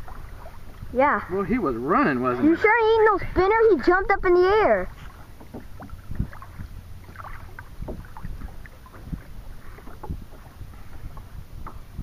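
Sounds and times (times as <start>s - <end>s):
wind rumble on microphone: 0.0s - 2.0s, 2.6s - 12.0s
water slapping against kayak: 0.0s - 12.0s.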